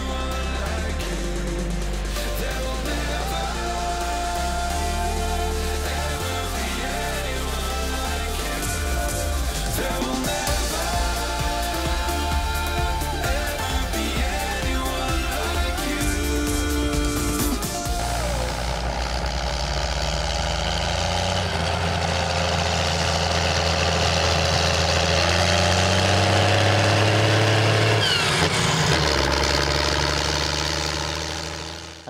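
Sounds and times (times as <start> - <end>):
tractor diesel engine working: 0.0 - 32.0.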